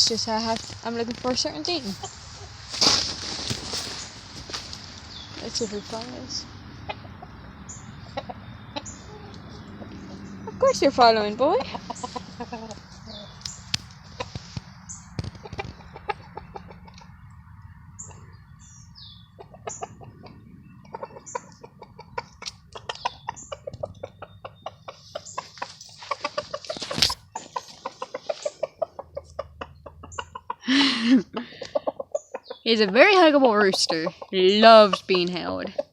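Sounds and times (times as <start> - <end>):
rooster clucking: 0.0 - 17.3, 18.0 - 35.9.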